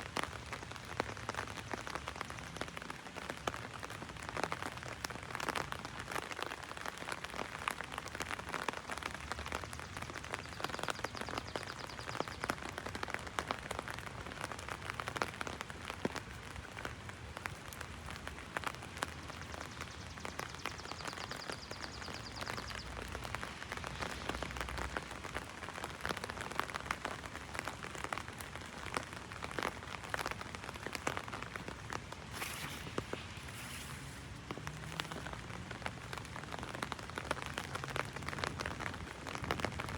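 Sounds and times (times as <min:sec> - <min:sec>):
heavy rain on umbrella: 0:00.0 - 0:39.9.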